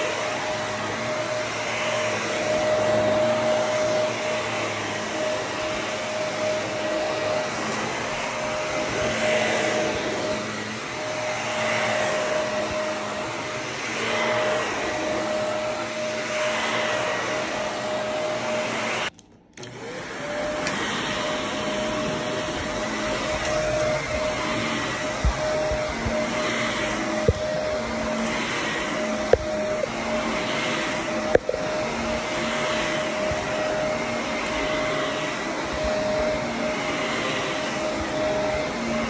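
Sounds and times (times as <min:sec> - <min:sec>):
vacuum cleaner on carpet: 0:00.0 - 0:39.0.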